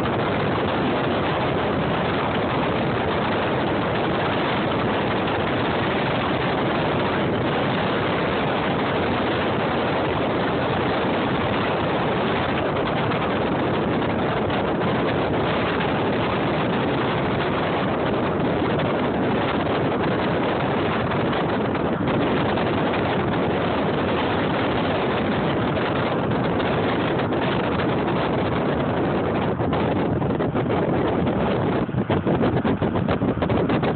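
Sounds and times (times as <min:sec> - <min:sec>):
car engine and road noise: 0:00.0 - 0:33.9
wind on microphone: 0:00.0 - 0:33.9.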